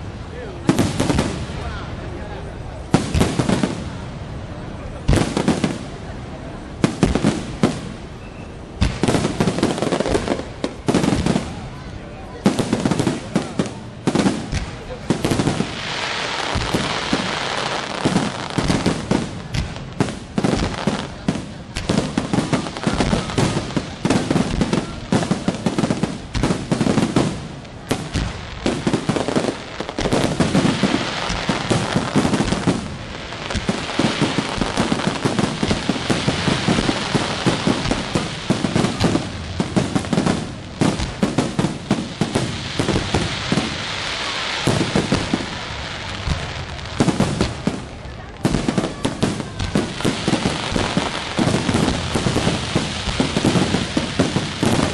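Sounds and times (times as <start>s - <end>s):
fireworks crackling hiss: 0.0s - 54.9s.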